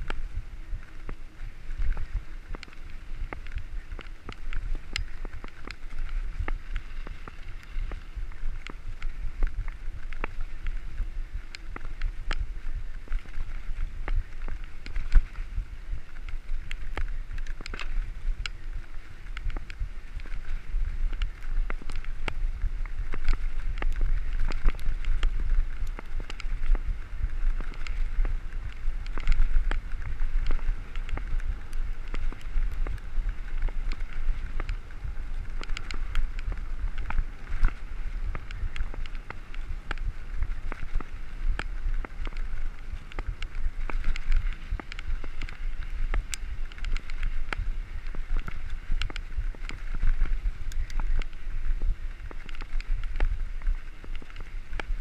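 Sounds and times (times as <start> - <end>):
bike clicks and rattles: 0.0 - 55.0
wind on microphone: 0.0 - 55.0.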